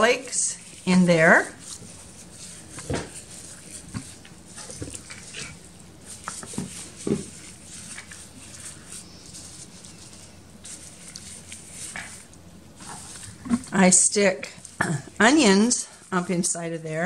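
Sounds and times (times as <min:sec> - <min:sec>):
plastic glove crinkling: 0:00.0 - 0:17.0.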